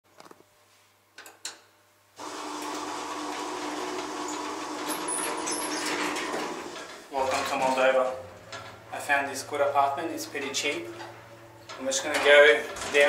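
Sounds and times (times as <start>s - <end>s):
lift mechanical hum: 2.2s - 13.0s.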